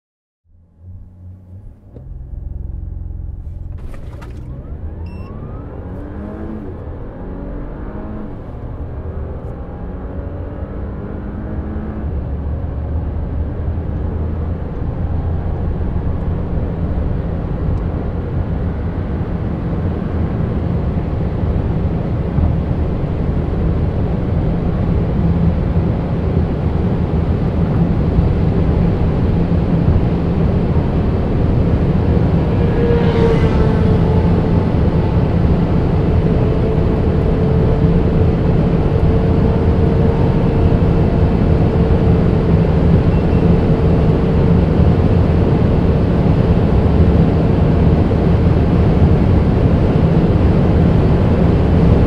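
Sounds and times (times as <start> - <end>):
car engine accelerating: 0.5 - 52.0.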